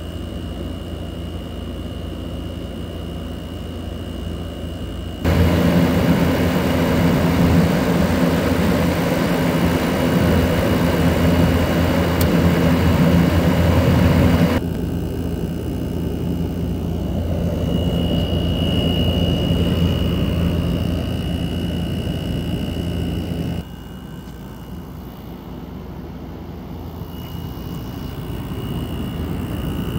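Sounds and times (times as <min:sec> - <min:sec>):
compressor hum: 0:00.0 - 0:29.9
faint high whine: 0:00.0 - 0:29.9.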